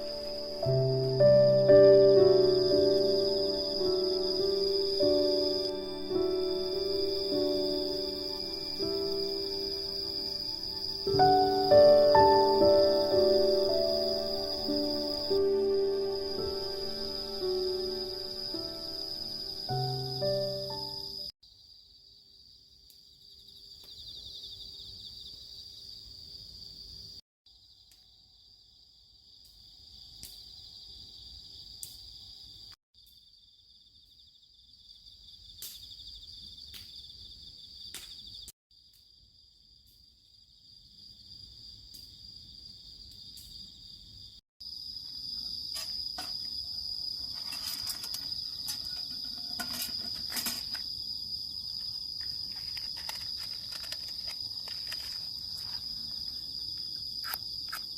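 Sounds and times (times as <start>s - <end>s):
insects chirping: 0.0s - 57.9s.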